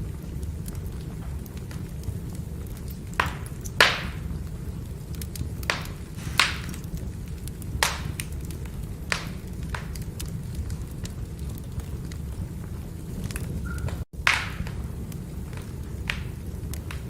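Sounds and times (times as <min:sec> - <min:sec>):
firewood crackling and popping: 0:00.0 - 0:17.0
low rumble of fire: 0:00.0 - 0:17.0.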